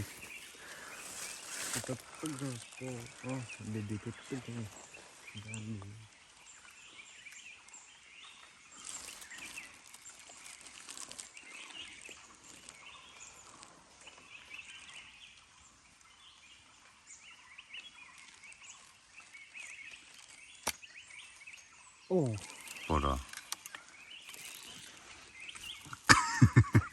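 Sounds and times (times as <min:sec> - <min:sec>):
rustling: 0:00.0 - 0:06.6, 0:08.4 - 0:21.6, 0:22.2 - 0:26.9
small birds chirping: 0:00.0 - 0:26.9.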